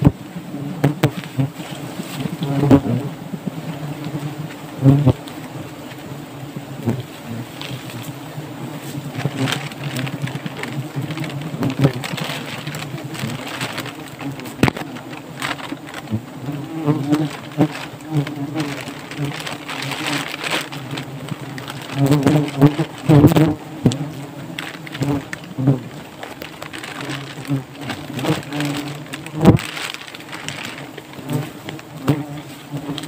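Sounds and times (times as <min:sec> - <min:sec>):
honeybees buzzing: 0:00.0 - 0:33.0.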